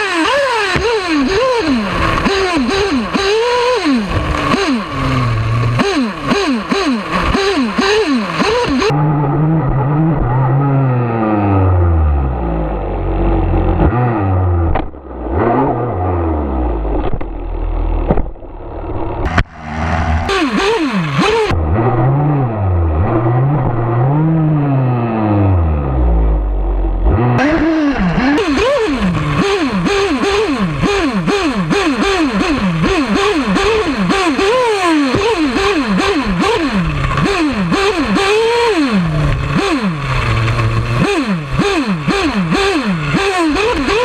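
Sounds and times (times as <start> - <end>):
nitro engine revving: 0.0 - 44.0.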